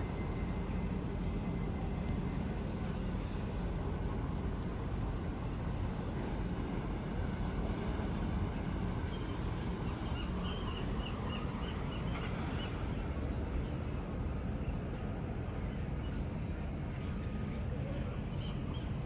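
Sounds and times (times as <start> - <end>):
large ship under way: 0.0 - 19.0.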